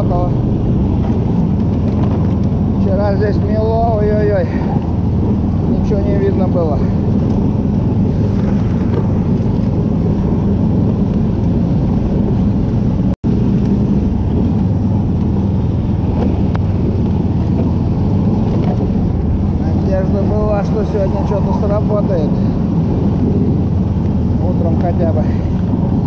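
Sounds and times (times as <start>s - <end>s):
snow tow engine running: 0.0s - 26.0s.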